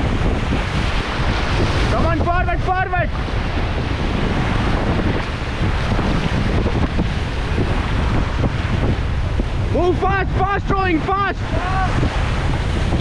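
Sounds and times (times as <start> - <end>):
rushing whitewater: 0.0 - 13.0
wind buffeting microphone: 0.0 - 13.0.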